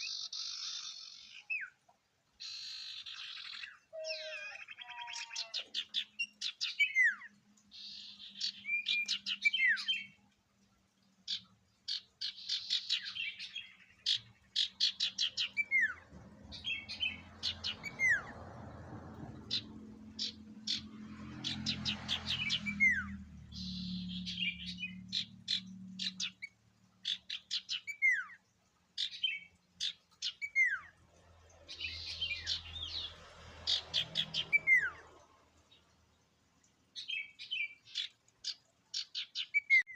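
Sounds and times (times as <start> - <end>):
bird singing chip notes and trills: 0.0 - 18.4, 19.2 - 36.3, 36.9 - 39.9.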